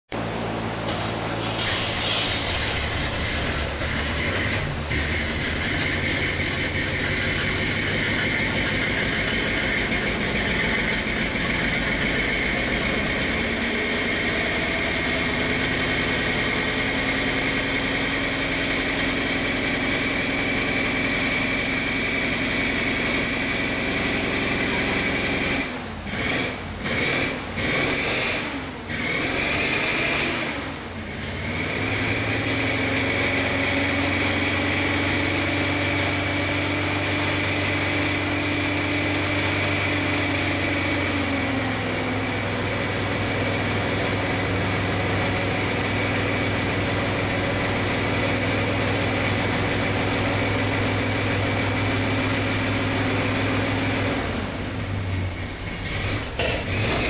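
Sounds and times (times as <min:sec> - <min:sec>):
car engine growling: 0:00.1 - 0:57.0.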